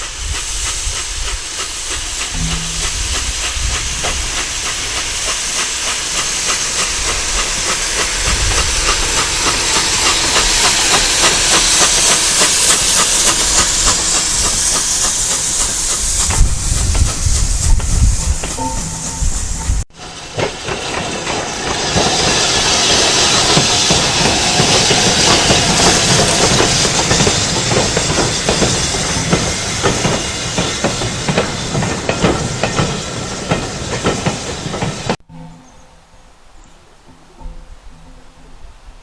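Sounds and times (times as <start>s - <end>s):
steam locomotive hiss: 0.0s - 35.2s
train wheels clattering on rails: 0.0s - 35.3s.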